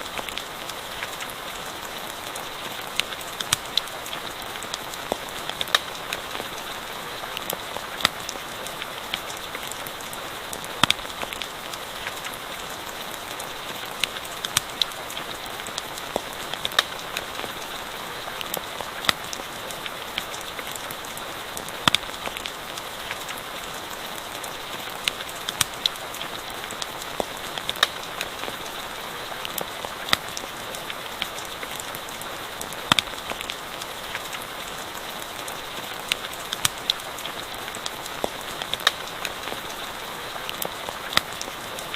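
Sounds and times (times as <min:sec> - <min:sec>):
campfire crackling and popping: 0:00.0 - 0:41.9
steady rain falling: 0:00.0 - 0:41.9.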